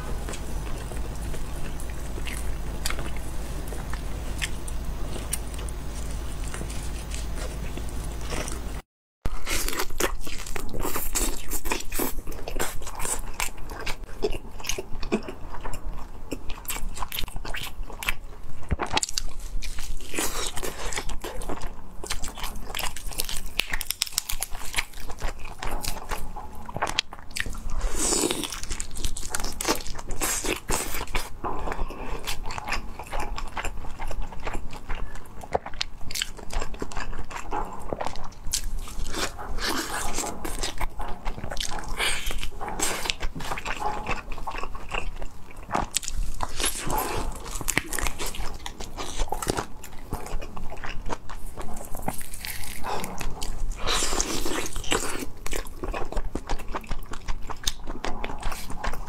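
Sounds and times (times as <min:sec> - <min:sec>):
steady low hum: 0:00.0 - 0:57.2
chewing and crunching mouth sounds: 0:00.0 - 0:59.0.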